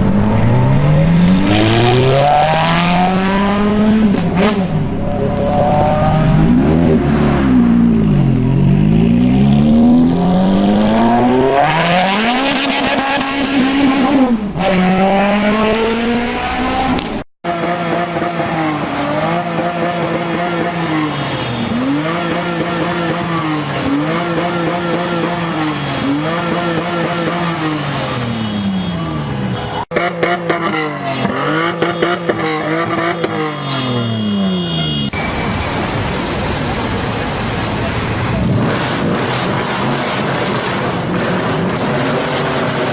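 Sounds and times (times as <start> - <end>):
car engines revving: 0.0 - 42.9.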